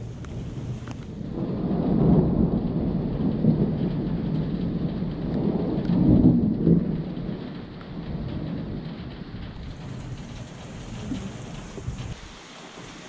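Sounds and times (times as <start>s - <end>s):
heavy rain: 0.0s - 13.0s
thunder rumbling: 0.0s - 13.0s.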